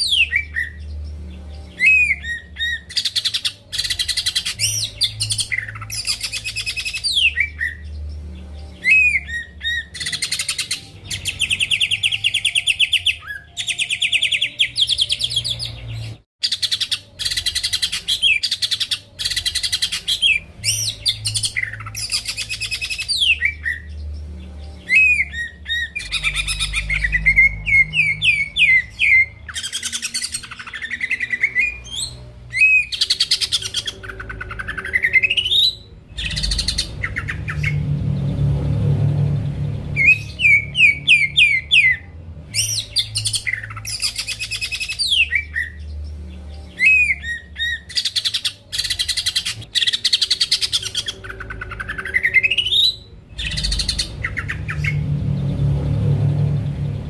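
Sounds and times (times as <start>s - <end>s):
bird singing trills and whistles: 0.0s - 38.5s, 39.6s - 57.0s.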